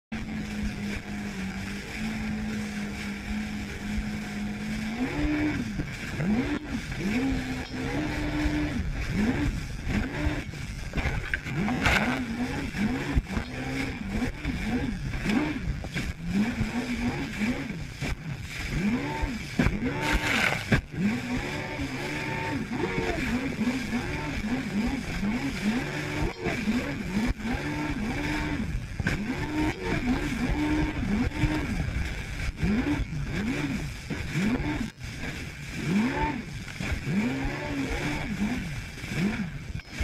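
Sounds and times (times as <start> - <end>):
jet ski engine: 0.1 - 40.0
splashing water: 0.6 - 40.0.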